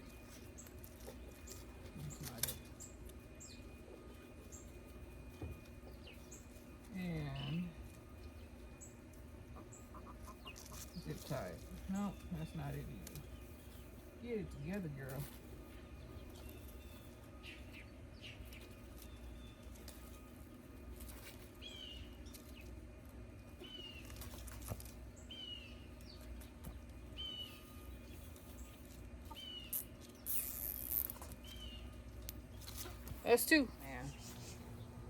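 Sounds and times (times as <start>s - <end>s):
faint outdoor background: 0.0s - 35.0s.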